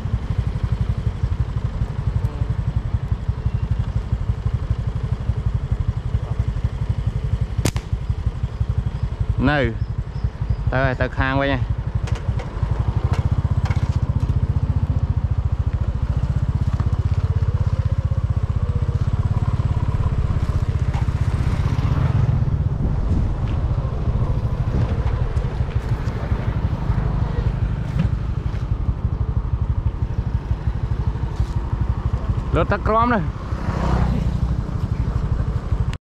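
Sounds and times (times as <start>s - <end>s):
small motorcycle engine running: 0.0s - 36.0s.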